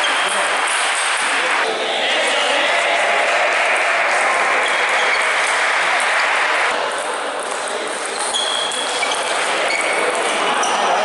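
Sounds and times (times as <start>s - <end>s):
din of a busy sports hall: 0.0s - 11.0s.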